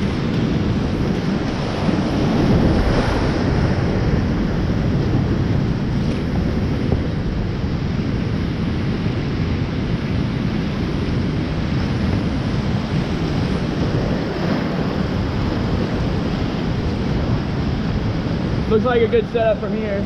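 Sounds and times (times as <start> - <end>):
whitewater rushing: 0.0 - 20.0.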